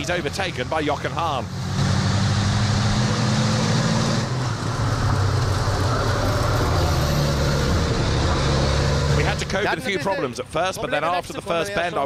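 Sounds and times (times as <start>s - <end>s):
truck engine at high revs: 0.0s - 10.7s
wind and road noise: 0.0s - 12.0s.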